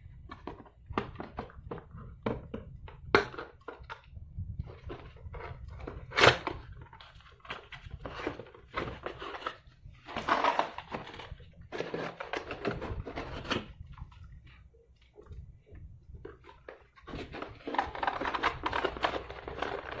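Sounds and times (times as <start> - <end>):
packaging rustling and crinkling: 3.2 - 20.0.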